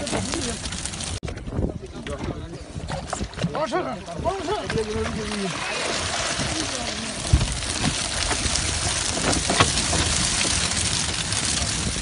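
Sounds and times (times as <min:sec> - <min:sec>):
water streaming and splashing: 0:00.0 - 0:01.2, 0:02.1 - 0:12.0.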